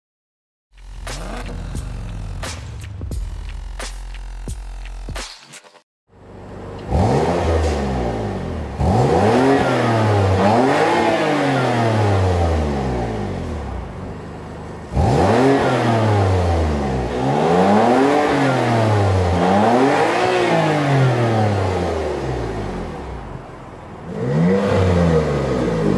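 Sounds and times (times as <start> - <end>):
car engine revving: 0.8 - 5.2, 6.3 - 25.9.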